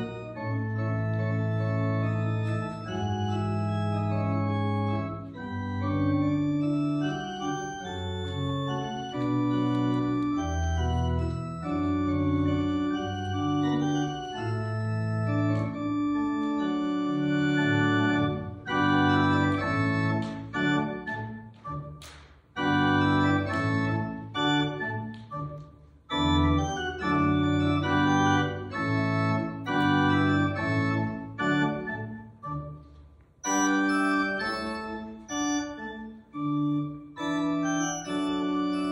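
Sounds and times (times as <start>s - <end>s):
organ playing slow chords: 0.0s - 21.9s, 22.6s - 38.9s.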